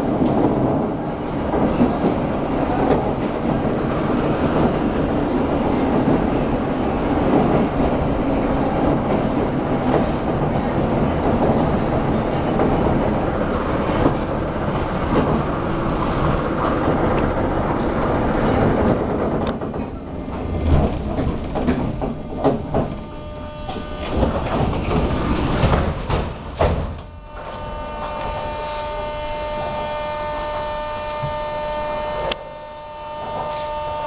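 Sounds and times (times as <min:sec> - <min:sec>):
metro train rolling to a stop: 0:00.0 - 0:34.0
steady train whine: 0:00.0 - 0:34.0
train wheels and brakes rumbling: 0:00.0 - 0:34.0.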